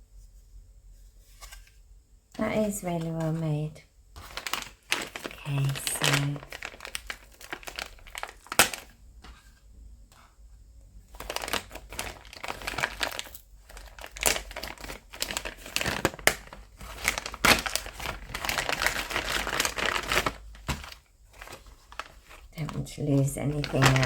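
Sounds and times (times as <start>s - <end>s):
plastic bag crinkling: 2.5s - 9.0s, 11.1s - 24.0s.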